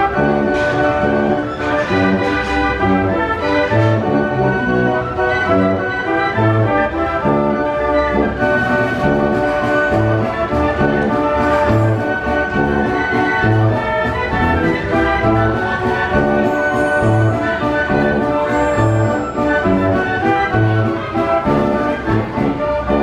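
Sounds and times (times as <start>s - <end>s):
band organ playing a tune: 0.0s - 23.0s.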